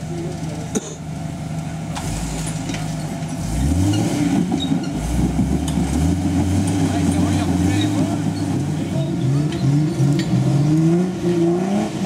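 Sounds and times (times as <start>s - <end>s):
engine revving under load: 1.9s - 12.0s.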